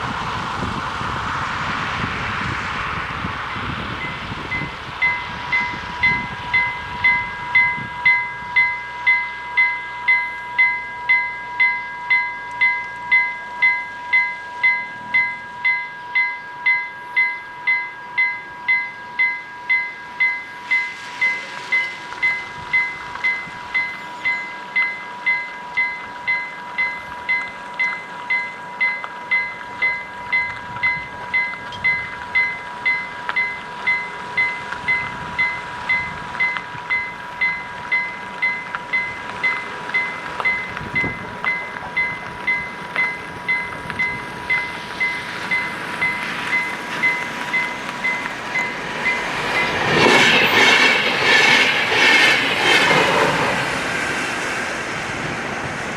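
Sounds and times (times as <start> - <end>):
approaching train rushing: 0.0 - 55.9
level crossing warning bell: 3.5 - 53.0.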